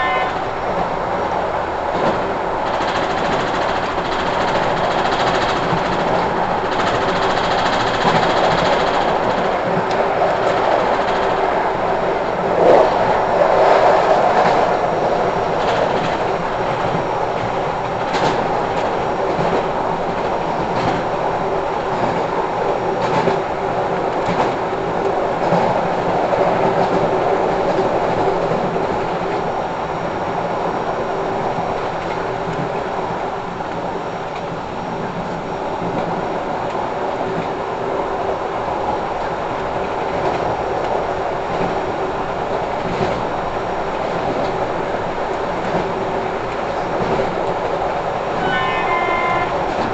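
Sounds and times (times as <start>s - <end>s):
rail joint clicks: 0.0s - 49.9s
train wheels rumbling on track: 0.0s - 49.9s.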